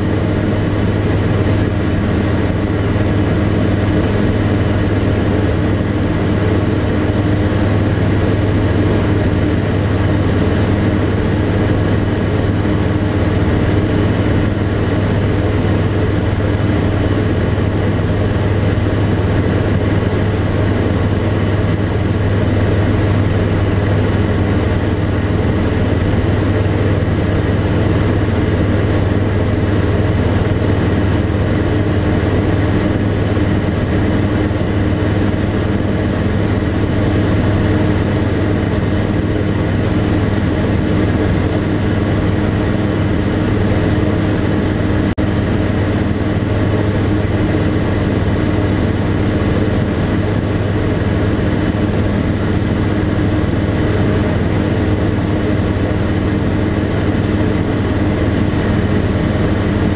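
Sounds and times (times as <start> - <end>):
aircraft engine and propeller: 0.0 - 59.9.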